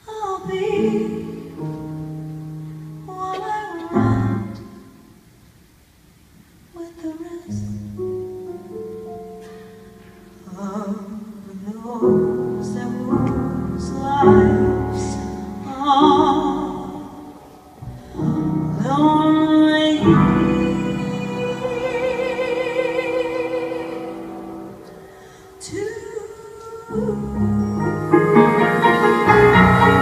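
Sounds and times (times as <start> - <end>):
woman singing jazz ballad: 0.0 - 5.0, 6.7 - 30.0
piano accompaniment: 0.4 - 5.2, 7.7 - 30.0.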